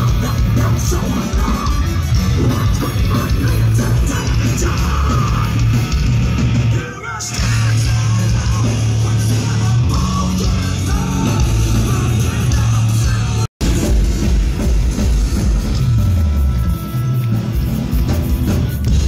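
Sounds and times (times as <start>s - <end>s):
loud rock music with singing: 0.0s - 19.0s.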